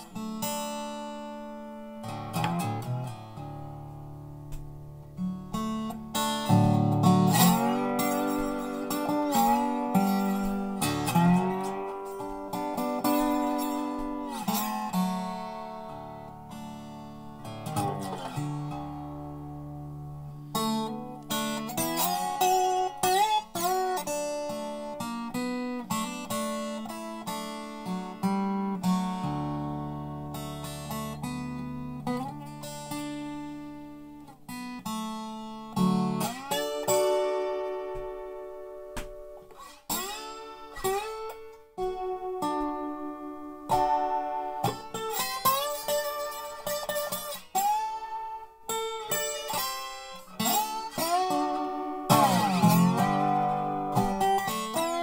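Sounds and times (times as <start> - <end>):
slide guitar playing slow blues: 0.0 - 55.0.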